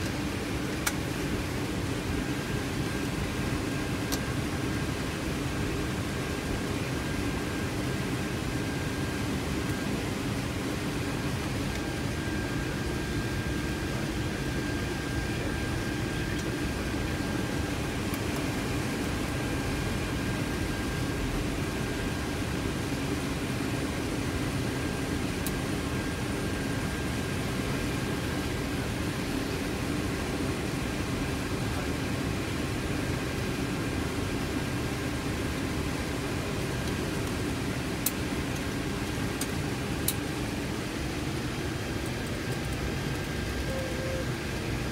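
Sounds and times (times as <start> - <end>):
thin steady whine: 0.0 - 44.9.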